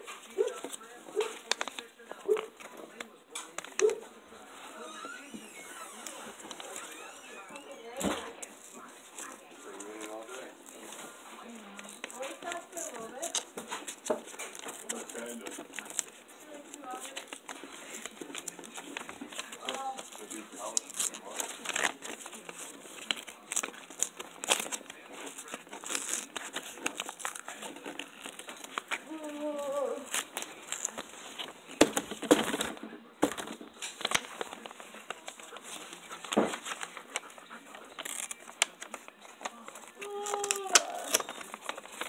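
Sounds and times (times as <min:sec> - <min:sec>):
paper being folded and crinkling: 0:00.0 - 0:42.0.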